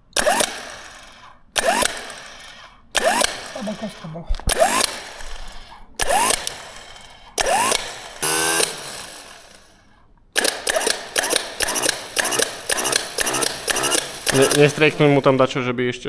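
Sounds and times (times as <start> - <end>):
fast clicks and short bursts: 0.0 - 15.6
power tool whining: 0.0 - 15.7.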